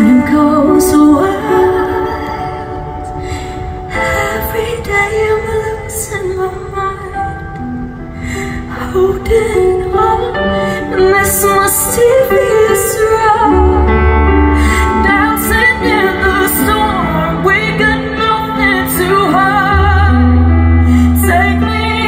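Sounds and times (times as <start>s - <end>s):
backing music with chords: 0.0s - 22.0s
woman singing pop ballad: 0.0s - 22.0s.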